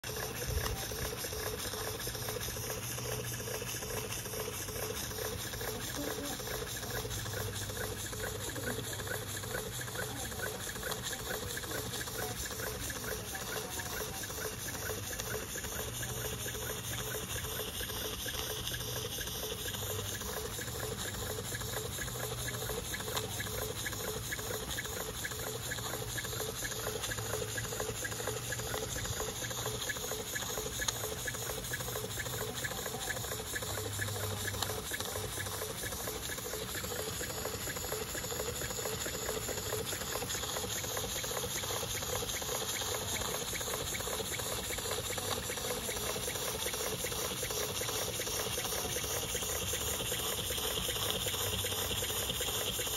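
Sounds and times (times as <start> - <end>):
steam engine exhaust beats: 0.0 - 52.9
steam hissing: 0.0 - 52.9.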